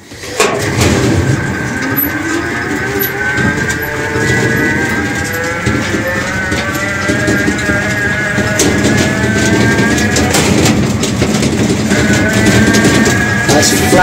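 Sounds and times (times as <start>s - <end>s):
loose cab rattling: 0.0s - 14.0s
tyres rumbling on paving: 0.0s - 14.0s
electric motor whining: 0.6s - 14.0s.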